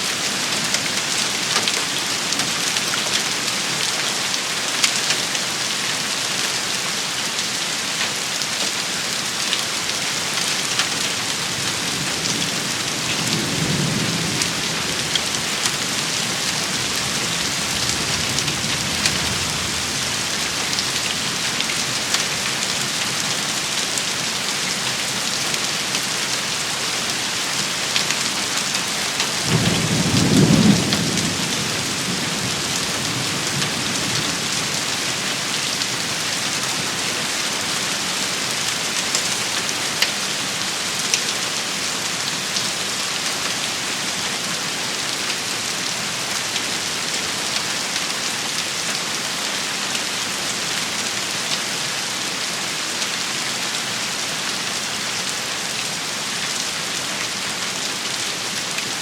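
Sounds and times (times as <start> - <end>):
rain pattering: 0.1 - 59.0.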